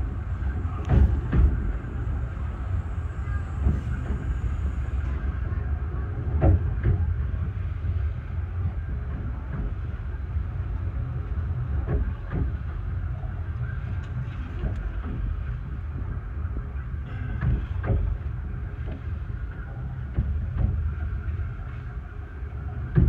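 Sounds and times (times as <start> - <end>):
railway carriage rumbling: 0.0 - 23.0.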